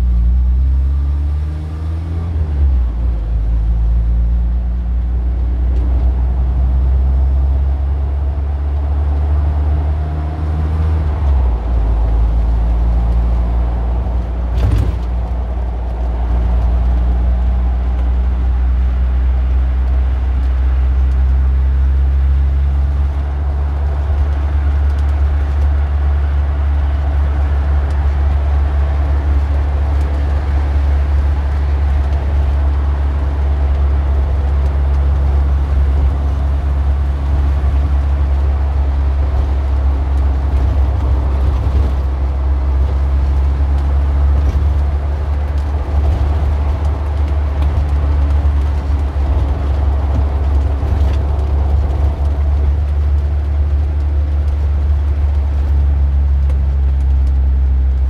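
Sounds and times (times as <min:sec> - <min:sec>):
car engine running: 0:10.7 - 0:58.0.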